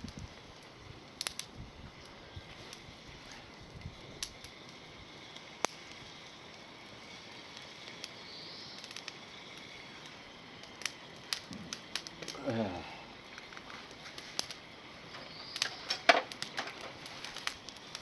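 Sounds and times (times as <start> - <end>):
bonfire crackling and popping: 0.0 - 18.0
low hiss of fire: 0.0 - 18.0.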